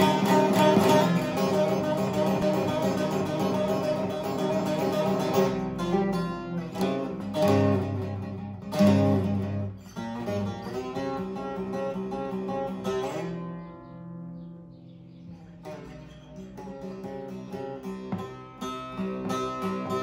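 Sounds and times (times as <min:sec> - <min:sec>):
deep strummed chords: 0:00.0 - 0:20.0
long-necked lute plucked and strummed: 0:00.0 - 0:20.0.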